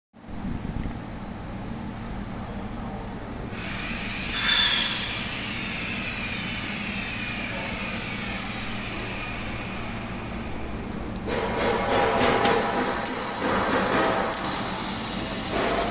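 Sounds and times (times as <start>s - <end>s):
machine low hum: 0.2s - 15.9s.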